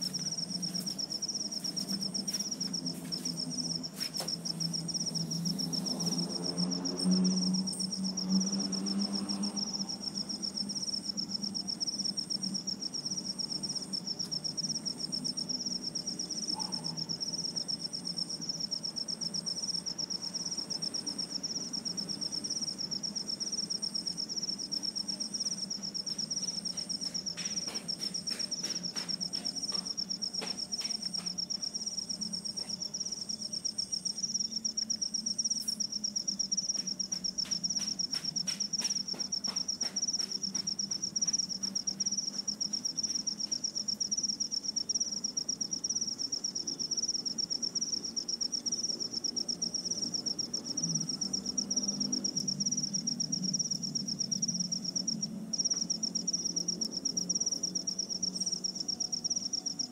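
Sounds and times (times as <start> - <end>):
high-pitched insect call: 0.0 - 59.9
insects trilling: 0.0 - 59.9.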